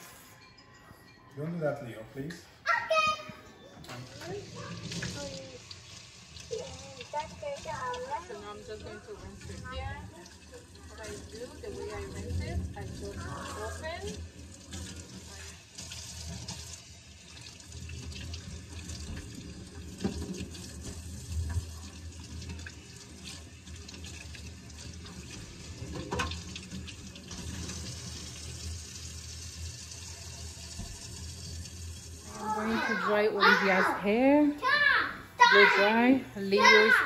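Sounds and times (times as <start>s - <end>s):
faucet water splashing into sink: 3.9s - 33.6s.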